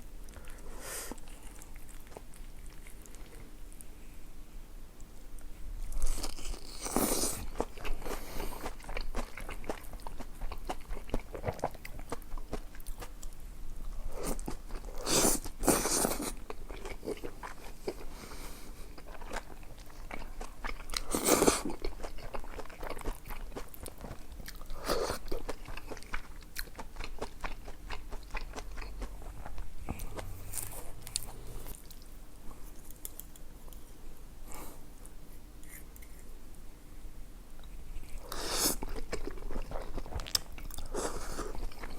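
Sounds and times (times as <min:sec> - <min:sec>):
person chewing crunchy food: 0:00.3 - 0:03.8, 0:05.9 - 0:32.0, 0:37.7 - 0:41.9.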